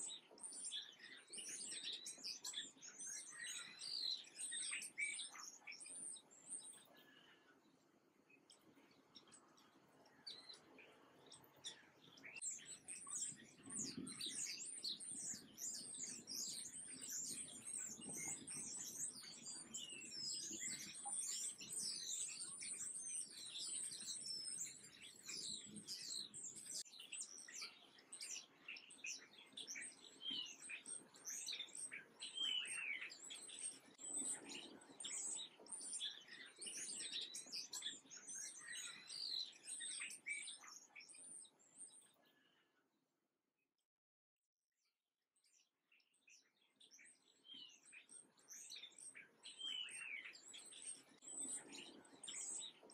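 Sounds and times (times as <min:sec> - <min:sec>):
songbirds chirping and twittering: 0:00.0 - 0:43.0, 0:45.4 - 0:52.9.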